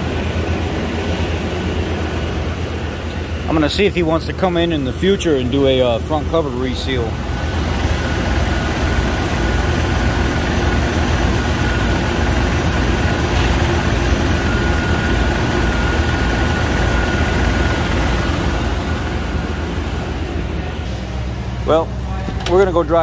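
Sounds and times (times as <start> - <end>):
thin steady whine: 0.0 - 23.0
truck engine running: 0.0 - 23.0.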